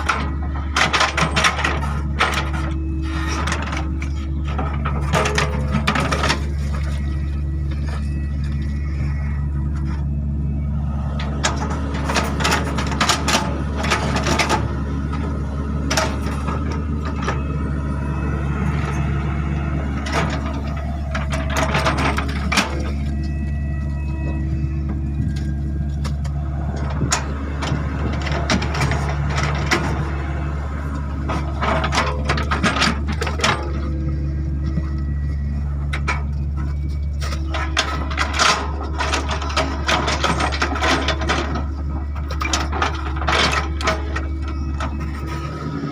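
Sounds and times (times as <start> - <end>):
excavator diesel engine under load: 0.0 - 45.9.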